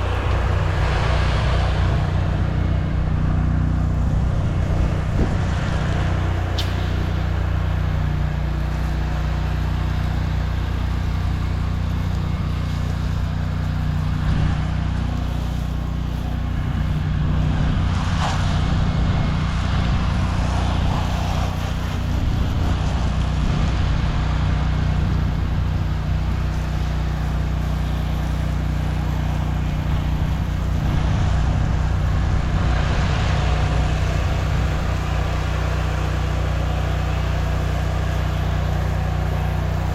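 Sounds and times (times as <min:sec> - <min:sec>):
pressure washer engine running: 0:00.0 - 0:39.9
water spray hiss: 0:00.0 - 0:39.9.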